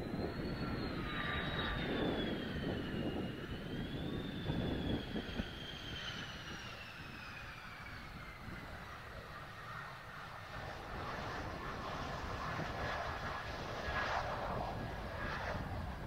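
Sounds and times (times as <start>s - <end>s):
jet engine whining: 0.0s - 16.0s
wind buffeting microphone: 0.0s - 16.0s.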